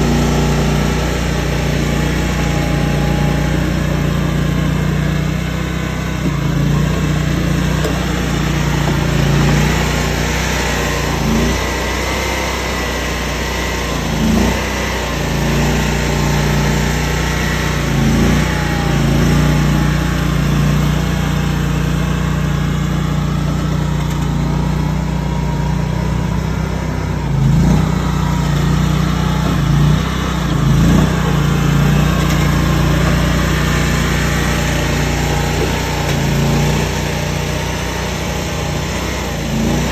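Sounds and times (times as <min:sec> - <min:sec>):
engine surges and knocks: 0:00.0 - 0:39.9
skid steer engine running: 0:00.0 - 0:39.9.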